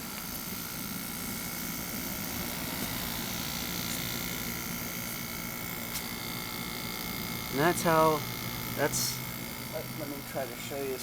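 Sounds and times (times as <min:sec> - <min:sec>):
air conditioner fan whirring: 0:00.0 - 0:11.0.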